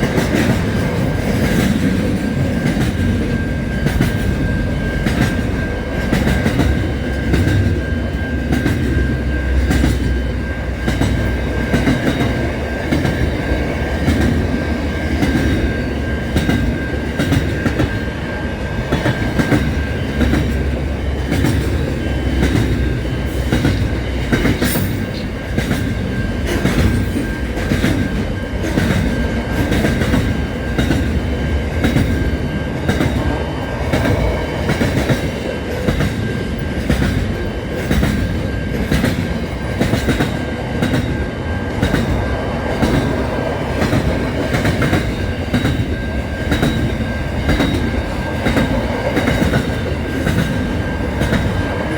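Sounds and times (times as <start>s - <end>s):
train rumbling on rails: 0.0s - 51.9s
wheels clacking over rail joints: 0.0s - 51.9s.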